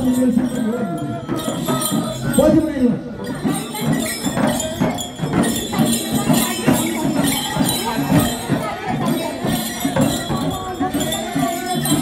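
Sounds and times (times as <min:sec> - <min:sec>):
bells jingling: 0:00.0 - 0:12.0
frame drums beating: 0:00.0 - 0:12.0.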